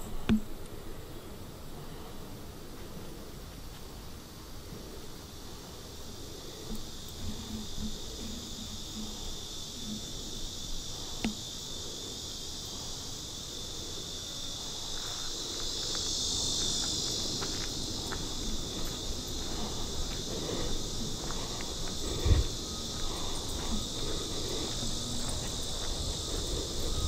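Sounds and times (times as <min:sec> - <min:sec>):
faint ticks: 0:00.0 - 0:00.8, 0:04.6 - 0:27.0
high-pitched insect chorus: 0:00.0 - 0:27.0.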